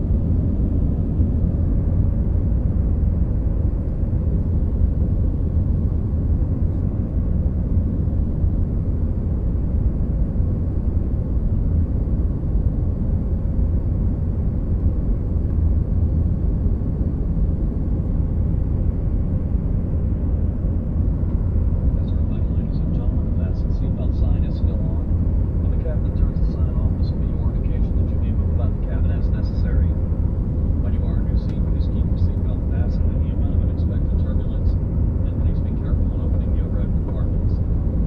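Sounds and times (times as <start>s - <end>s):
faint steady hum: 0.0s - 38.0s
jet engine and airflow rumble: 0.0s - 38.0s.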